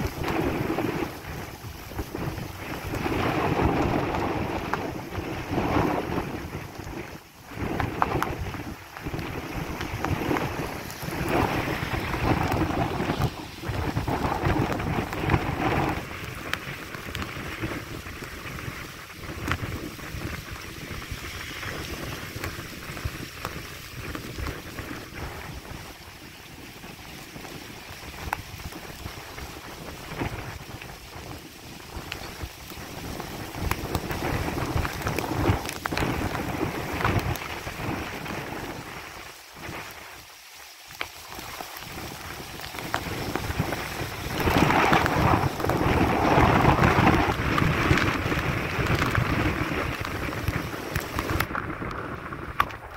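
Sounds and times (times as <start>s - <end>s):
gusty wind buffeting microphone: 0.0s - 40.3s, 40.9s - 52.9s.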